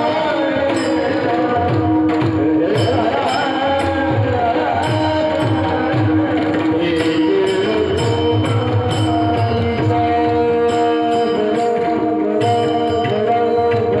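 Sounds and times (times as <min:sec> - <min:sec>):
sharp percussion beat: 0:00.0 - 0:14.0.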